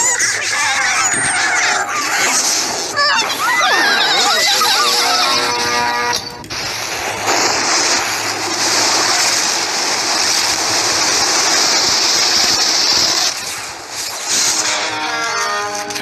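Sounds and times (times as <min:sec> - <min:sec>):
breaking surf hiss: 0:01.5 - 0:15.8.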